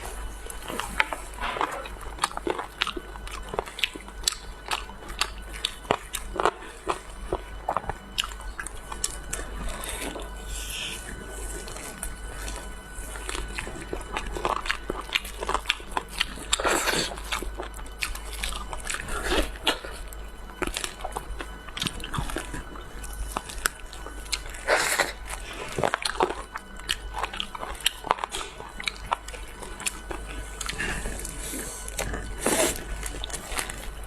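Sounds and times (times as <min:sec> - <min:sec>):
person chewing crunchy food: 0:00.0 - 0:34.0.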